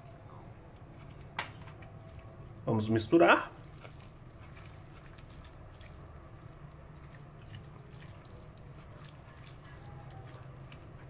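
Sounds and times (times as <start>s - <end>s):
low steady hum: 0.0s - 11.0s
spatula stirring wet food in bowl: 1.9s - 11.0s.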